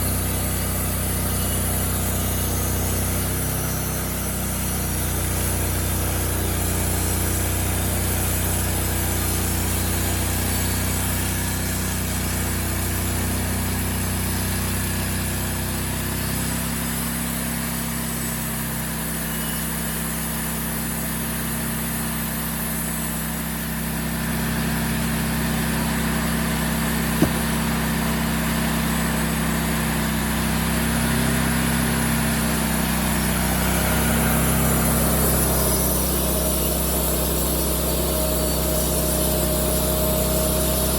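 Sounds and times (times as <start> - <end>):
sawmill engine running under load: 0.0 - 40.9.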